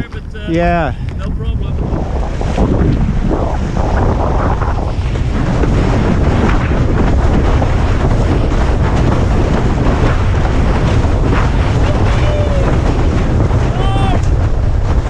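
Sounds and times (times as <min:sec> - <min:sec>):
wind buffeting microphone: 0:00.0 - 0:15.0
water rushing and splashing: 0:01.8 - 0:15.0.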